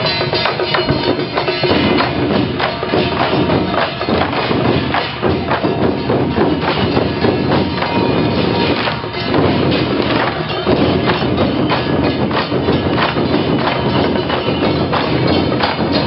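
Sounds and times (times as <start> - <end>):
rapid clattering percussion: 0.0 - 16.0.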